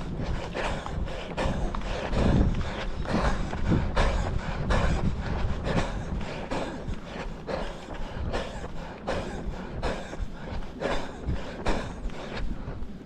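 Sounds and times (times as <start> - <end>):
heavy breathing: 0.0 - 13.0
low rumble: 0.0 - 13.0
running footfalls: 0.0 - 13.0.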